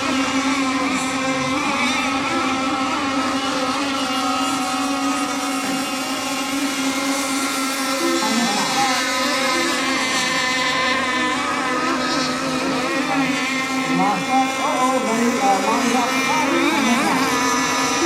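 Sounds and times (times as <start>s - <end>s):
buzzing model boat motors: 0.0s - 18.0s.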